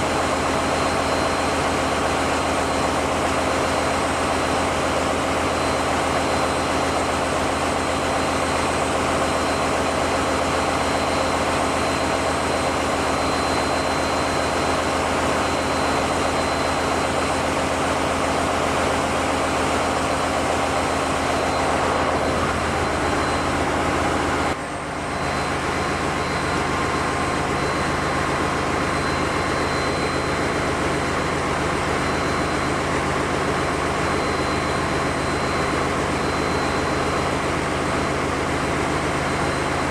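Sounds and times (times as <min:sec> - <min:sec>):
diesel engine machinery drone: 0:00.0 - 0:39.9.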